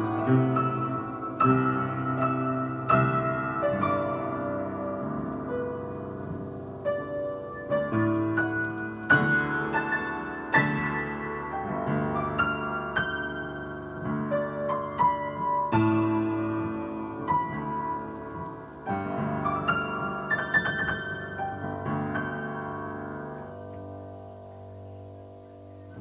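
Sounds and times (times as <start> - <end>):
gentle piano playing: 0.0 - 26.0.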